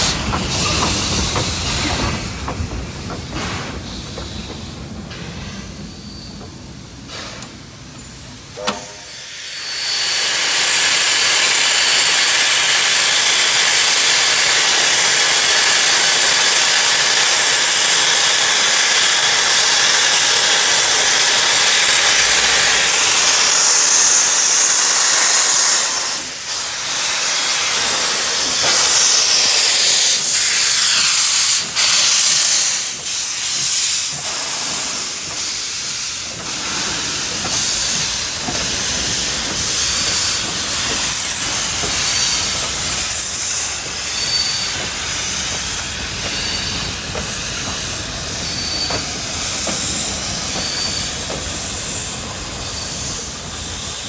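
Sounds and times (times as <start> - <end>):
steam hissing from locomotive: 0.0 - 54.0.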